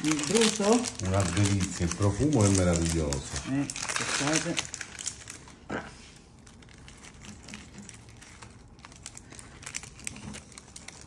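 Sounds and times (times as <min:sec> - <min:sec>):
pastry crackles: 0:00.0 - 0:11.0.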